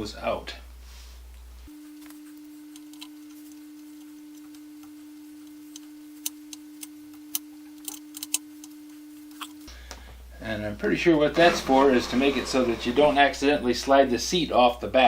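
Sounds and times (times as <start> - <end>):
steady pure tone: 0.1 - 15.0.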